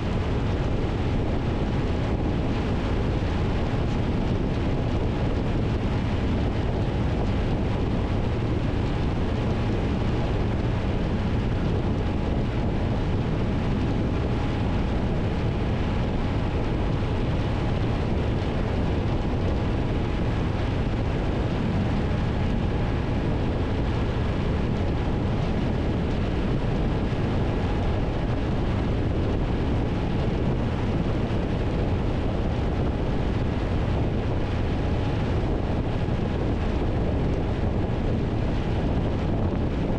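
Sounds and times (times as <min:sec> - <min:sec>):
road noise: 0:00.0 - 0:39.9
wind rushing over microphone: 0:00.0 - 0:39.9.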